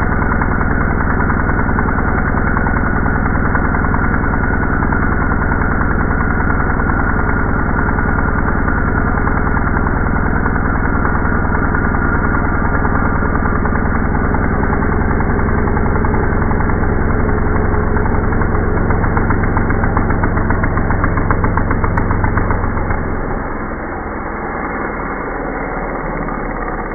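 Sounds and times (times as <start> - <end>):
slowed two-stroke engine pulsing: 0.0 - 26.9.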